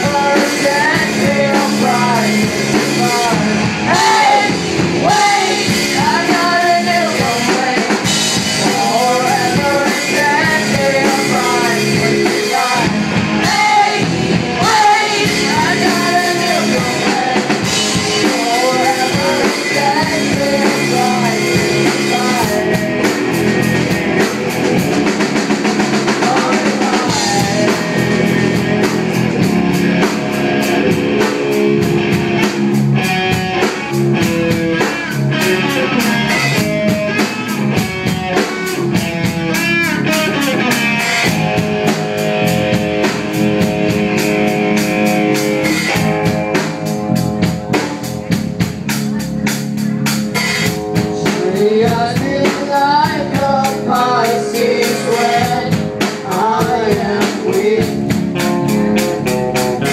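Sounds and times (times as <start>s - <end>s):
drum kit: 0.0s - 59.9s
electric bass: 0.0s - 59.9s
electric guitar: 0.0s - 59.9s.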